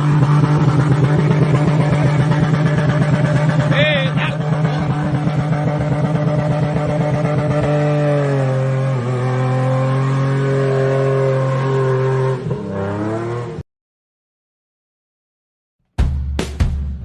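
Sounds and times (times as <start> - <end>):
engine revving under load: 0.0 - 13.6.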